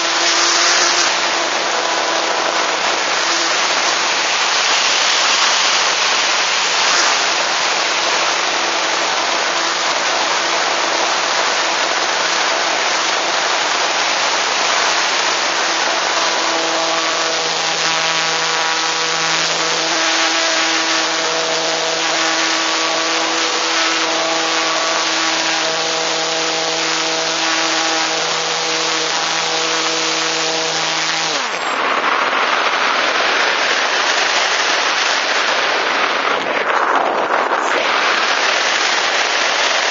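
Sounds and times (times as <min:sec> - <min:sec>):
electric motor whine: 0:00.0 - 0:36.6, 0:37.5 - 0:39.9
wind rushing over camera: 0:00.0 - 0:39.9.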